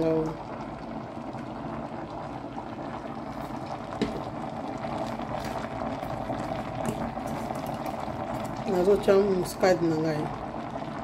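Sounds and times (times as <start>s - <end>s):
pot bubbling: 0.0s - 11.0s.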